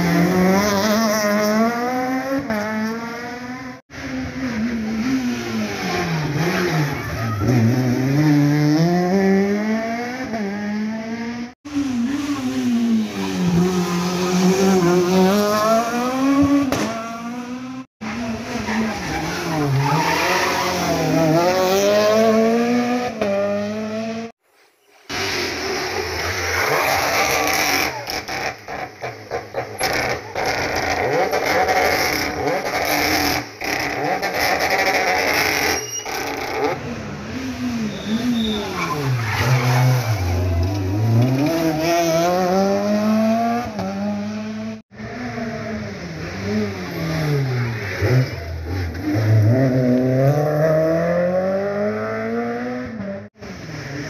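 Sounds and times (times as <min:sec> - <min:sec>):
rally car engine revving: 0:00.0 - 0:24.3, 0:25.1 - 0:54.0.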